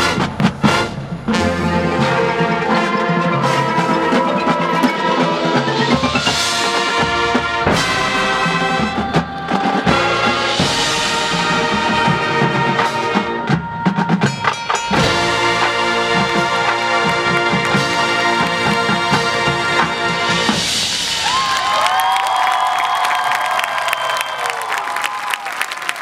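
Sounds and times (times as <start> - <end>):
sharp percussion hits: 0.0 - 21.6
marching band playing: 0.0 - 23.9.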